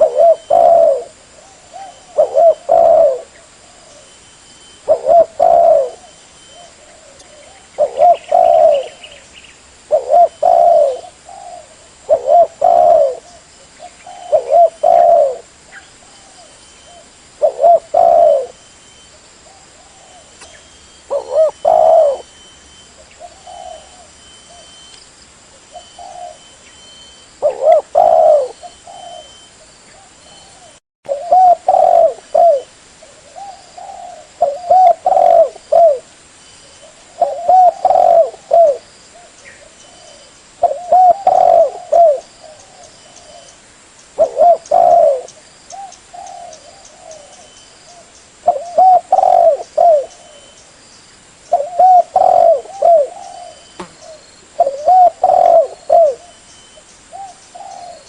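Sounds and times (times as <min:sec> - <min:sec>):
dove cooing: 0:00.0 - 0:09.2, 0:09.8 - 0:24.8, 0:25.6 - 0:36.1, 0:36.7 - 0:43.6, 0:44.2 - 0:50.6, 0:51.5 - 0:58.0.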